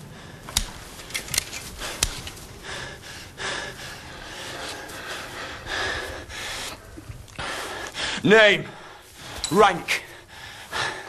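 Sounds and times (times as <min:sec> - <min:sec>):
man breathing heavily: 0:00.0 - 0:11.0.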